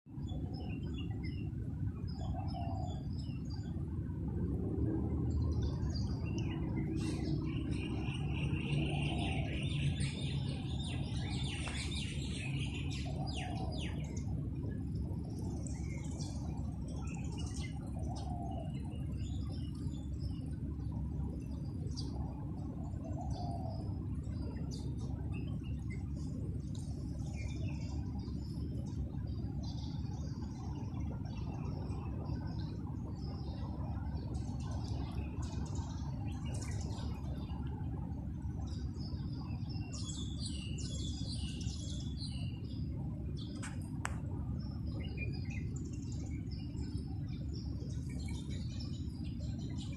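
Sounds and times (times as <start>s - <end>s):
steady low rumble: 0.1s - 49.9s
birds chirping and trilling: 0.2s - 3.8s, 5.0s - 49.9s.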